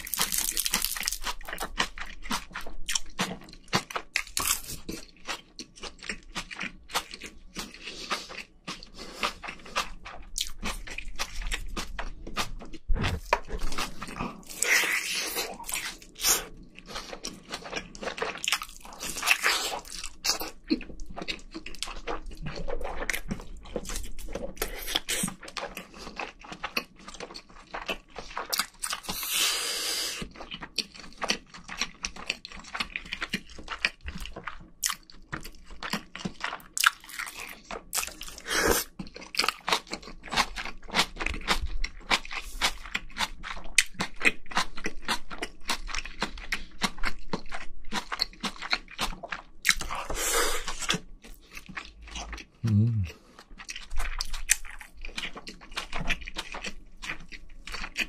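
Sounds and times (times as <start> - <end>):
sharp chewing clicks: 0.0 - 29.2, 30.2 - 58.0.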